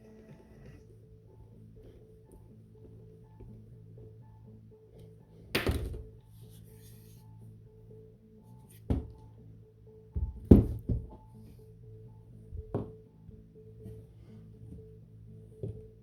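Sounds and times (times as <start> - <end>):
background music with held notes: 0.0 - 16.0.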